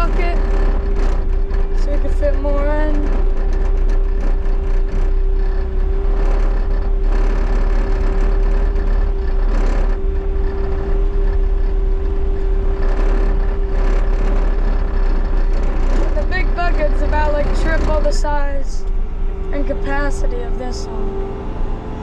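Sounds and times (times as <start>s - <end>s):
diesel engine whining: 0.0s - 22.0s.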